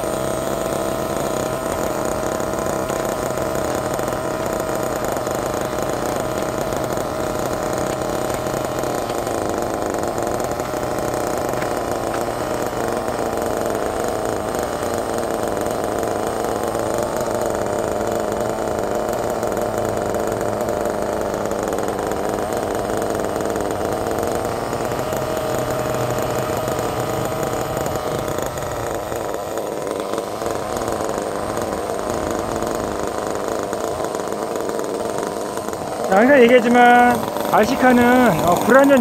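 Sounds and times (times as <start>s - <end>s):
small nitro engine idling: 0.0s - 39.0s.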